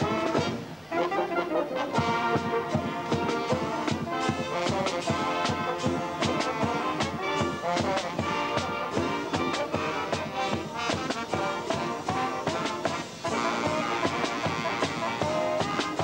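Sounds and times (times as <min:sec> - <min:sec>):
steady drumbeat: 0:00.0 - 0:00.9, 0:01.9 - 0:16.0
marching band playing: 0:00.0 - 0:16.0.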